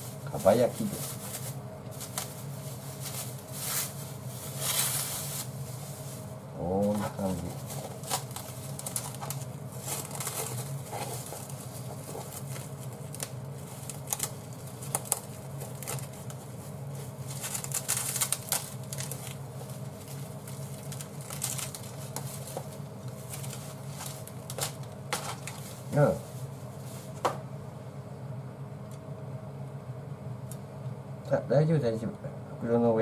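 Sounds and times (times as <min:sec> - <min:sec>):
cling film crinkling: 0:00.0 - 0:27.2
steady low hum: 0:00.0 - 0:33.0.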